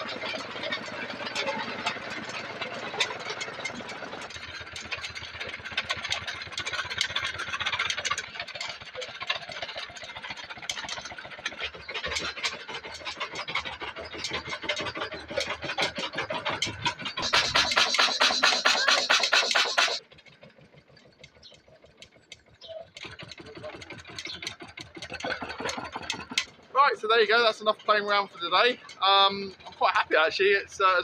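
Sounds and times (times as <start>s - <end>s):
engine clattering with fast knocks: 0.0s - 31.0s.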